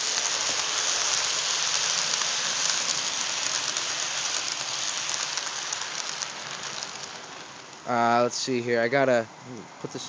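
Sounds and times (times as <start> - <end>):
model train wheels clattering on rail: 0.0 - 8.2.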